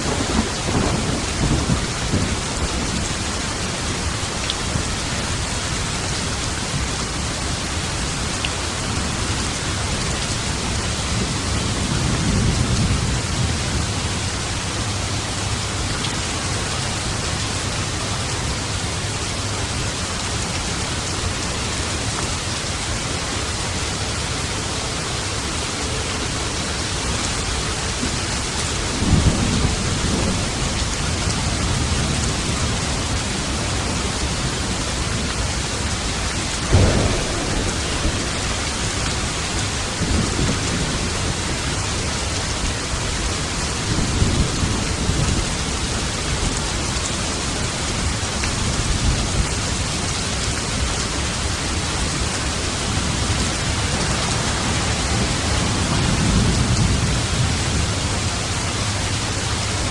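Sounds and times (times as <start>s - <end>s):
thunder rumbling: 0.0s - 7.7s, 8.7s - 47.0s, 52.0s - 59.9s
heavy rain: 0.0s - 59.9s.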